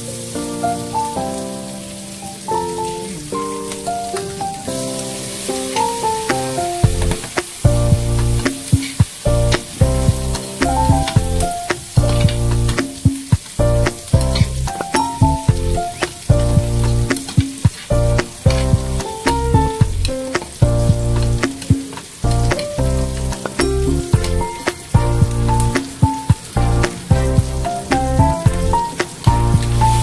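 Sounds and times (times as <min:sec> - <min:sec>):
meat sizzling in a pan: 0:00.0 - 0:30.0
background music with beat: 0:05.8 - 0:30.0.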